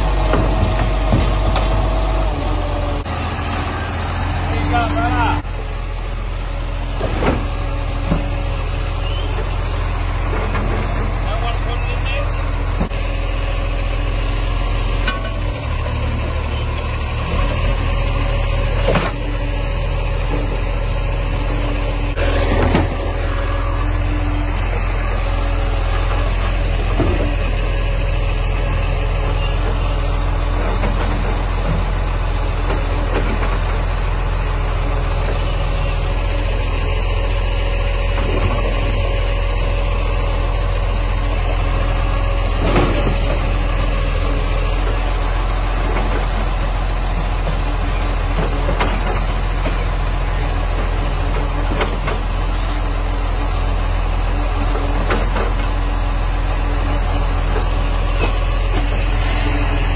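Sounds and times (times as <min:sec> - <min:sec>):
hydraulic arm lifting bins: 0:00.0 - 0:13.3, 0:14.2 - 0:59.9
garbage truck diesel engine: 0:00.0 - 0:59.9.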